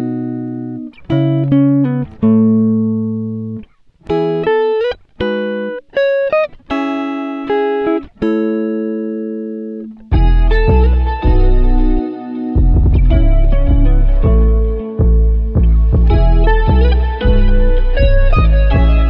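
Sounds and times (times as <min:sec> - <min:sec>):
plucked string melody: 0:00.0 - 0:19.0.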